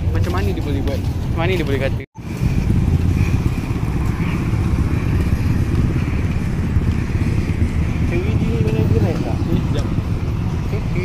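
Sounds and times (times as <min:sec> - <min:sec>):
cars running: 0:00.0 - 0:11.0
motorcycles running: 0:00.0 - 0:11.0.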